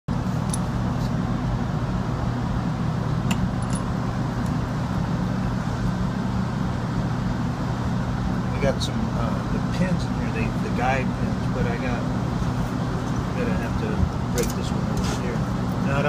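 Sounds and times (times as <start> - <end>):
low machinery hum: 0.1 - 16.0.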